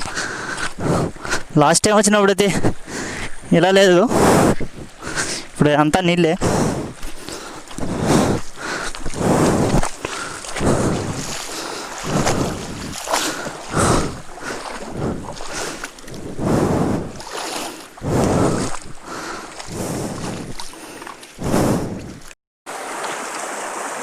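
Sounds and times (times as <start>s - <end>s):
feet splashing through stream: 0.0s - 1.6s, 4.4s - 5.8s, 6.4s - 24.0s
rushing water: 0.0s - 24.0s.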